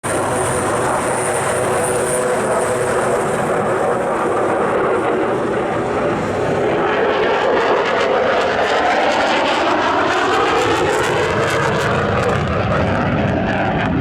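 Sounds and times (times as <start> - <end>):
jet engine running: 0.0 - 14.0.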